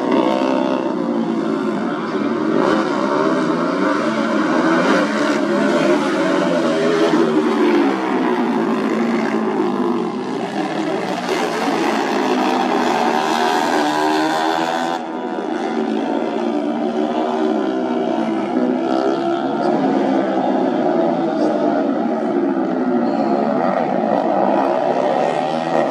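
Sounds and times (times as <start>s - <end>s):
motorcycle engines revving: 0.0s - 25.9s.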